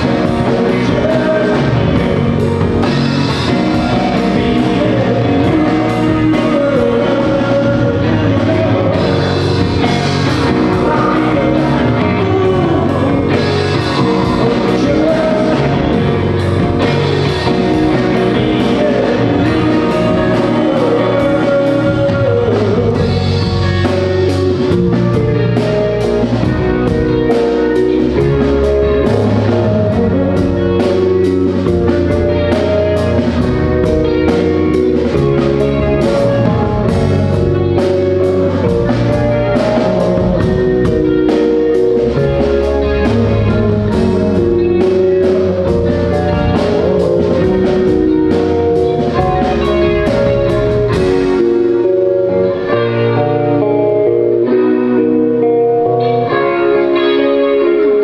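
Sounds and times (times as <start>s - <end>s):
drum kit beat: 0.0s - 52.2s
bass guitar: 0.0s - 58.0s
electric guitar: 0.0s - 58.0s
person singing: 0.0s - 58.0s.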